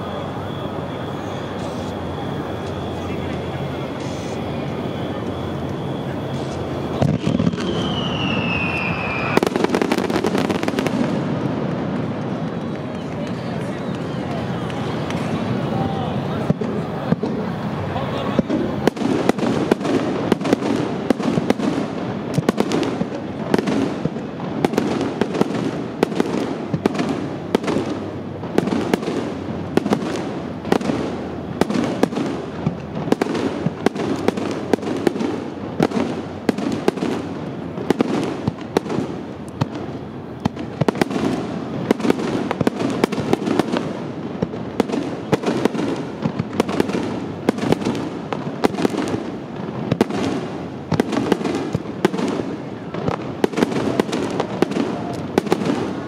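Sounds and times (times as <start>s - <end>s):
fireworks bangs: 0.0s - 56.0s
rumble of explosions: 0.0s - 56.0s.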